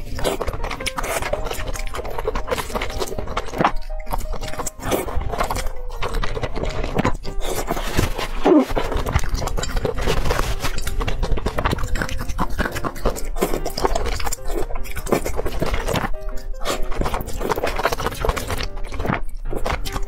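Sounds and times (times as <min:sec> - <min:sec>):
slurping and chewing noodles: 0:00.0 - 0:20.0
soft background music: 0:00.0 - 0:20.0.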